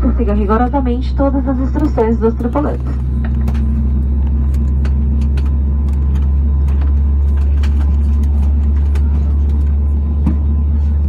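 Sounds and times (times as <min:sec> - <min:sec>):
jet engines humming: 0:00.0 - 0:11.0.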